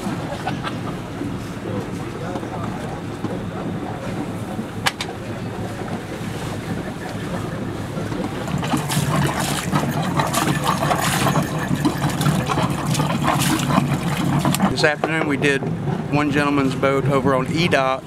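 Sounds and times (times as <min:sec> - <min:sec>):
water around a boat: 0:00.0 - 0:18.0
wind: 0:00.0 - 0:18.0.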